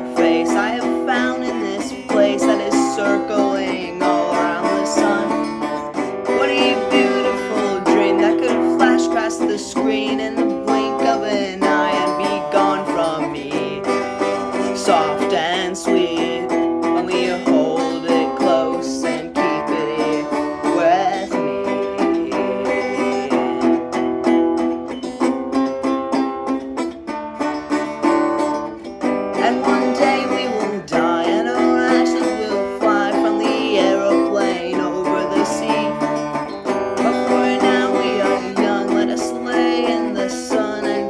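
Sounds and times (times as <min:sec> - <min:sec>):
resonator guitar playing: 0:00.0 - 0:41.0.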